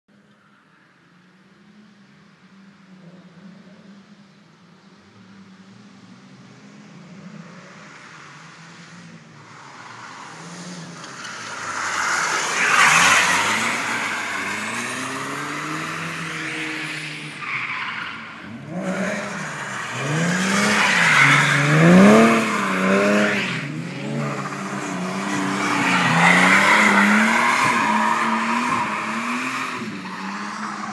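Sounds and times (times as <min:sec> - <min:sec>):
car engines revving: 0:01.4 - 0:30.9.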